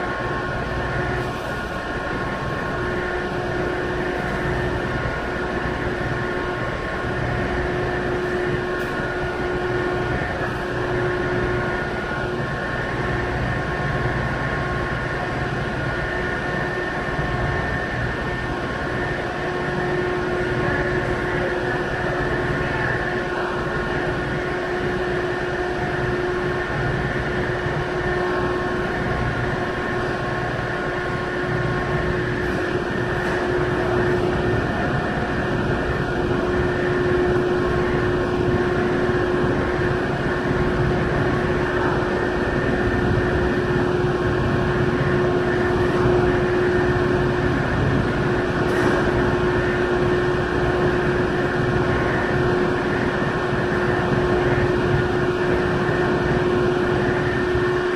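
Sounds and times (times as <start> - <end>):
ship engines droning: 0.0 - 57.9.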